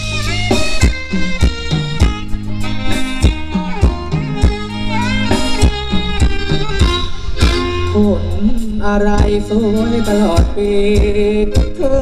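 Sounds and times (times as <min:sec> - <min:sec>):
melody line: 0:00.0 - 0:10.3
bass line: 0:00.0 - 0:12.0
live band playing dance music: 0:00.0 - 0:12.0
steady drum beat: 0:00.0 - 0:12.0.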